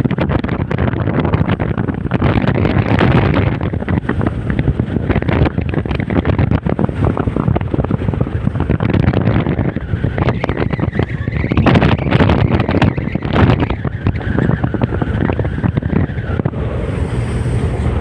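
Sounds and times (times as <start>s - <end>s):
waves washing on a lake: 0.0s - 18.0s
wind buffeting microphone: 0.0s - 18.0s.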